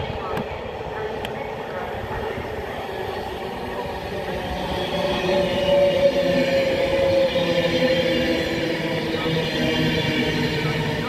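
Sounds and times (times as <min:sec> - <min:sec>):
train wheels rumbling on rails: 0:00.0 - 0:11.0
train whine: 0:00.0 - 0:11.0.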